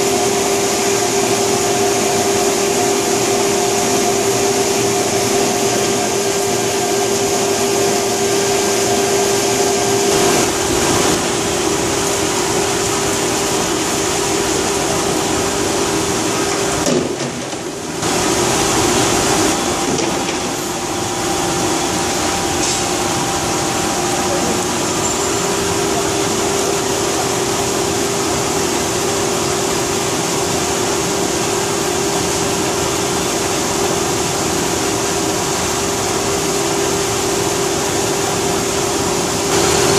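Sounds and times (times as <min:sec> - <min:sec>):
machine motor hum: 0:00.0 - 0:34.4.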